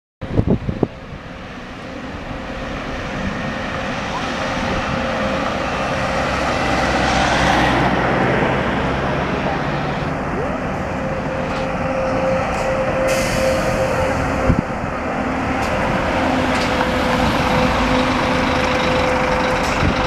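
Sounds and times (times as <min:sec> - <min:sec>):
coach engine running: 0:01.0 - 0:20.0.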